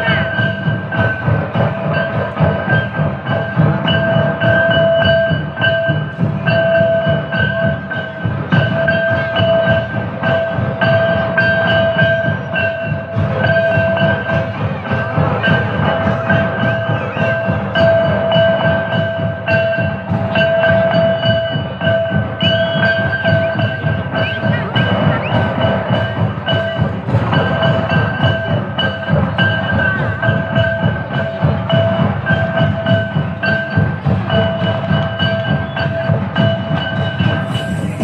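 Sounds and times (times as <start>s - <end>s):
fast dense drumming: 0.0s - 38.0s.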